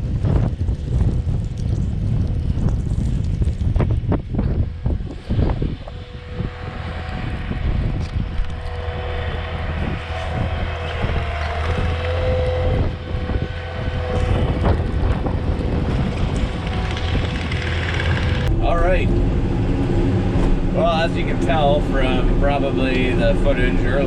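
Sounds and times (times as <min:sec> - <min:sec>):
heavy equipment engine running: 0:00.0 - 0:24.0
steady whine: 0:00.0 - 0:24.0
wind buffeting microphone: 0:00.0 - 0:24.0.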